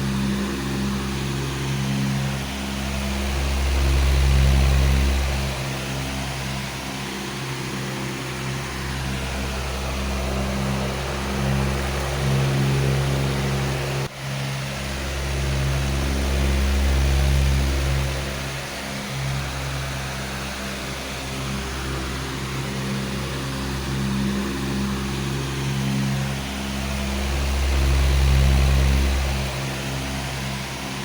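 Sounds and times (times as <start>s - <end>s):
electric fan running: 0.0s - 31.0s.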